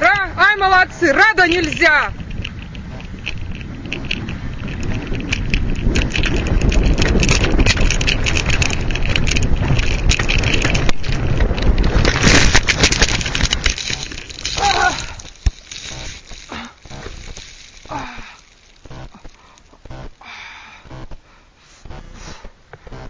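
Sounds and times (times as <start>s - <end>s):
sled scraping over snow: 0.0s - 20.2s
small knocks and clatters: 1.4s - 20.0s.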